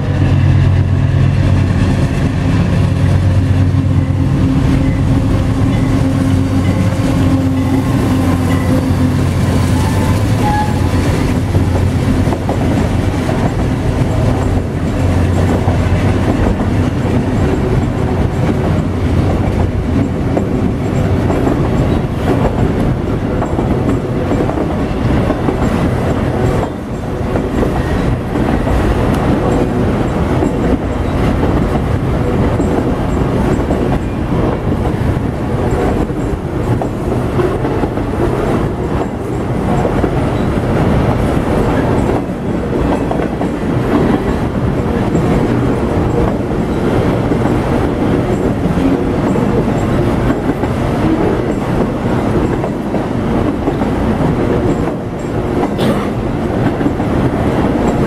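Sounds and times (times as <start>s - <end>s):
diesel locomotive engine drone: 0.0s - 58.0s
freight cars rolling clickety-clack: 0.0s - 58.0s.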